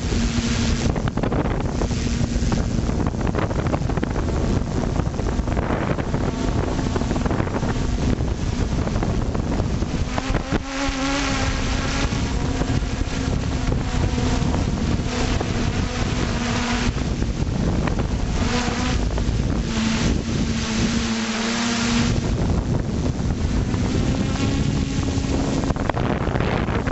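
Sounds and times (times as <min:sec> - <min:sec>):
drone propellers buzzing: 0:00.0 - 0:26.9
wind on microphone: 0:00.0 - 0:26.9.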